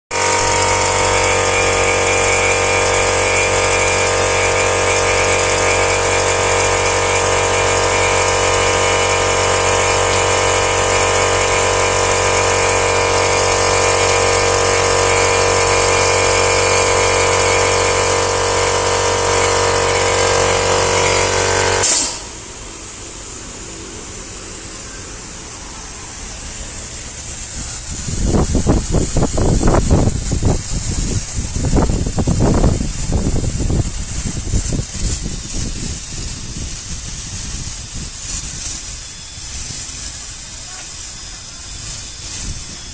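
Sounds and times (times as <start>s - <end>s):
machine hum with high whine: 0.1s - 42.9s.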